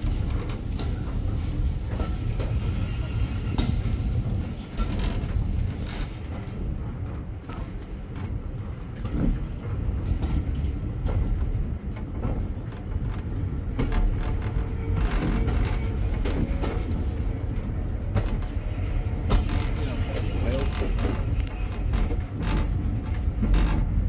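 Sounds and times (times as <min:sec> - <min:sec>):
railway carriage rumble: 0:00.0 - 0:24.0.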